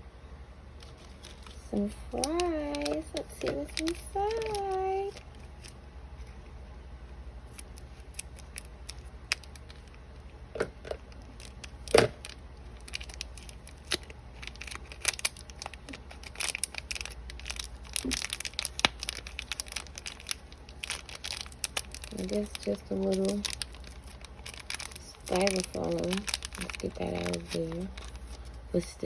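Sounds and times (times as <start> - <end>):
plastic packaging crinkling: 0.8 - 29.0.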